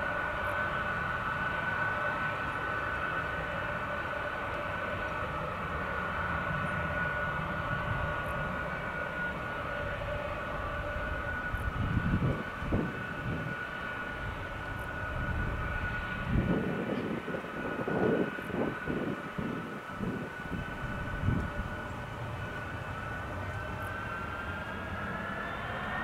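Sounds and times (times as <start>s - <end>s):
jet engines idling whine: 0.0s - 26.0s
wind rumble on microphone: 0.0s - 26.0s.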